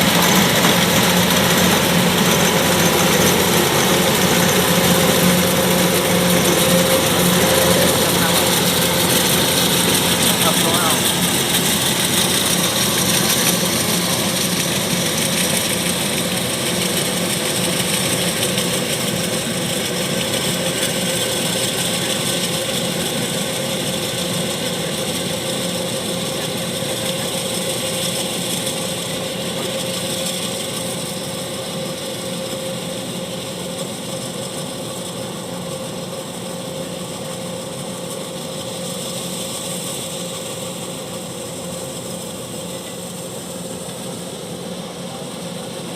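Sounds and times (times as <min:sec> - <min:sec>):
diesel engine hum: 0:00.0 - 0:45.9.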